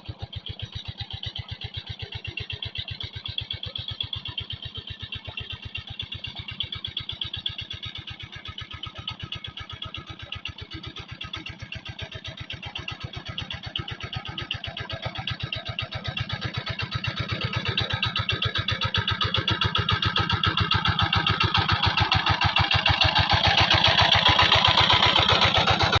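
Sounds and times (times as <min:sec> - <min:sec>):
tractor engine chugging: 0:00.0 - 0:26.0.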